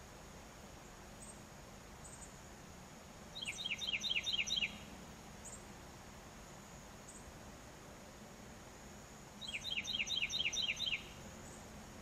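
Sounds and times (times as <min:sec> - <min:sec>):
faint high insect-like drone: 0:00.0 - 0:12.0
low outdoor background hiss: 0:00.0 - 0:12.0.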